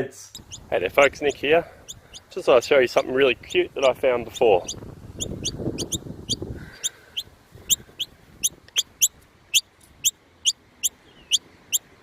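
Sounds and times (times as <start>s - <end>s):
nestling birds cheeping: 0.3s - 12.0s.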